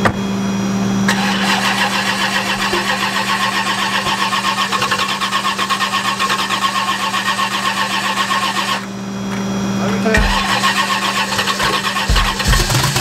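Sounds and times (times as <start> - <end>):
starter cranking engine: 1.1 - 8.9, 10.1 - 13.0.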